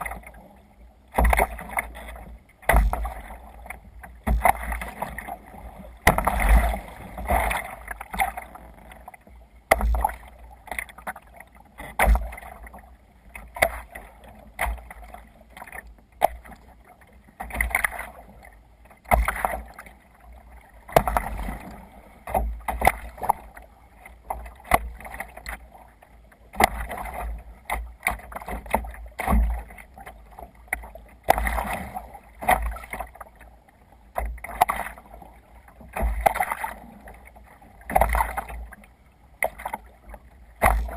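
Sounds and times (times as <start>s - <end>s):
water splashing against kayak hull: 0.0s - 40.9s.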